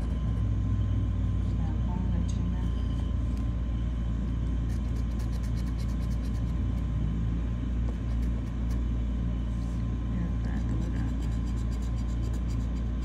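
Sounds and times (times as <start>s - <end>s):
electrical hum: 0.0s - 13.0s
low background rumble: 0.0s - 13.0s.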